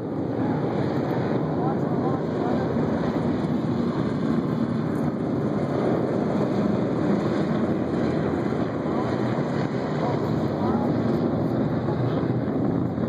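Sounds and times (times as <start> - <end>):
distant rocket roar: 0.0 - 13.0.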